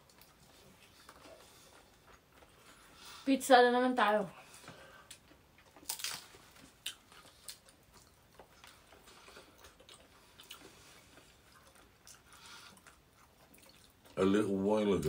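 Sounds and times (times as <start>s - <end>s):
people chewing pizza: 0.0s - 3.2s, 4.4s - 15.0s.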